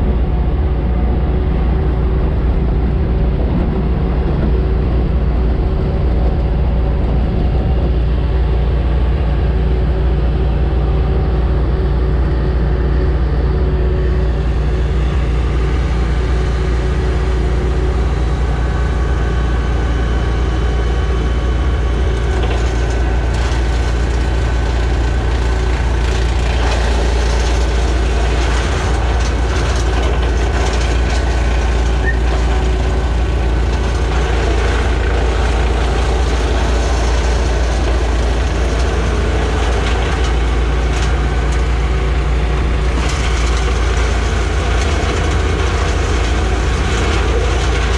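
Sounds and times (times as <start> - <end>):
woodchipper running: 0.0 - 47.9.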